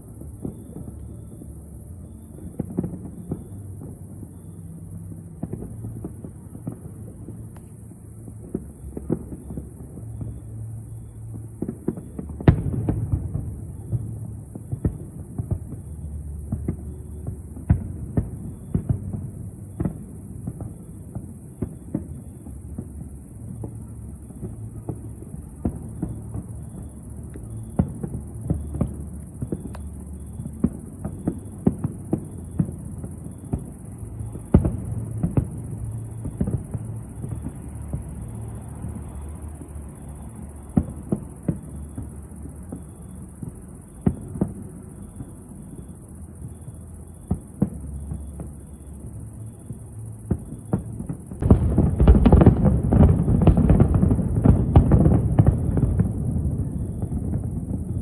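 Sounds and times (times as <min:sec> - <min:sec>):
low rumble of booms: 0:00.0 - 0:58.0.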